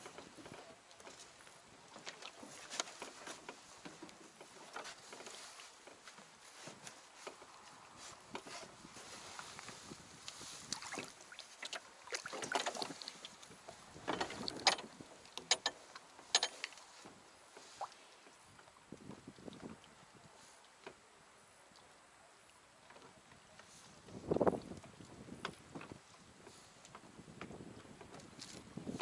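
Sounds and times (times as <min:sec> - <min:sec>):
knocks and clicks in wooden boat: 0:00.0 - 0:07.6, 0:08.3 - 0:08.7, 0:10.7 - 0:19.8, 0:20.8 - 0:21.0, 0:22.8 - 0:29.0.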